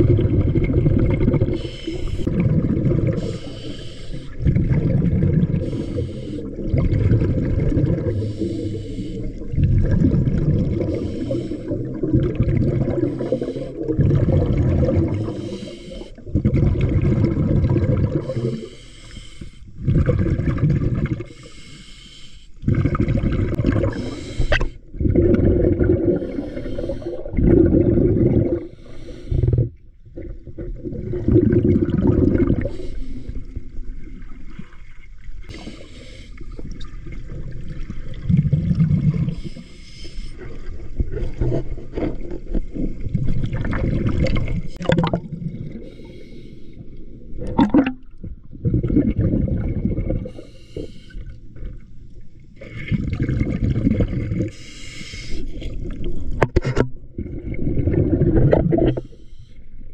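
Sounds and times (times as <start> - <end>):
muffled underwater water sloshing: 0.0 - 22.0, 22.6 - 59.9.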